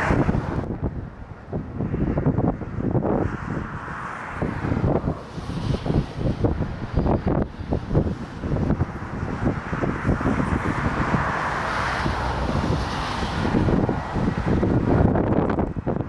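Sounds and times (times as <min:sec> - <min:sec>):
gusty wind buffeting microphone: 0:00.0 - 0:16.0
turboprop airliner engines: 0:00.0 - 0:16.0.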